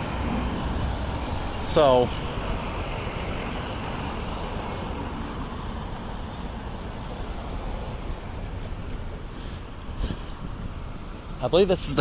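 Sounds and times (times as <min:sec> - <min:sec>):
low traffic rumble: 0:00.0 - 0:12.0
passing cars: 0:00.0 - 0:12.0.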